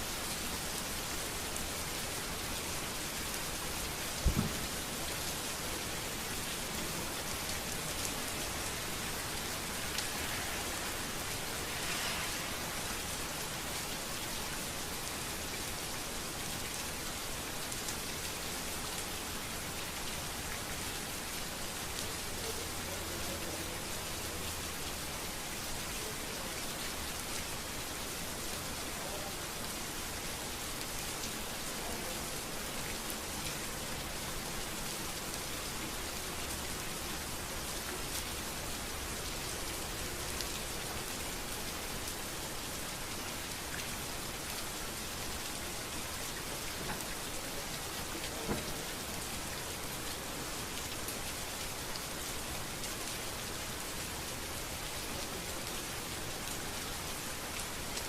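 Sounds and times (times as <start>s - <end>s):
rain falling on street: 0.0s - 58.0s.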